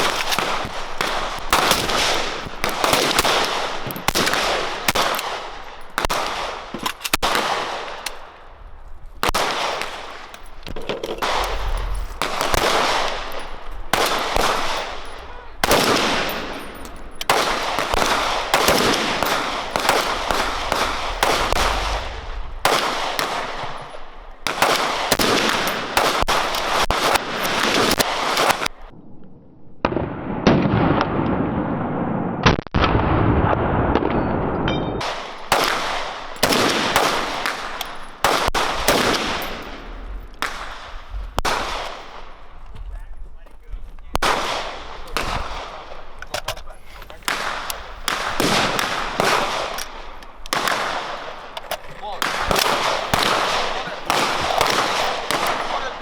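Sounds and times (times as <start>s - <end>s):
gunshots with echo: 0.0s - 8.6s, 9.2s - 28.9s, 29.8s - 43.1s, 44.1s - 56.0s.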